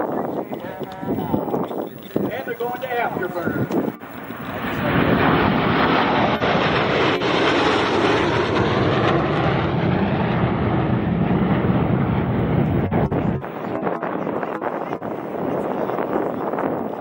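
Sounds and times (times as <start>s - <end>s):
jet fighters roaring past: 0.0s - 17.0s.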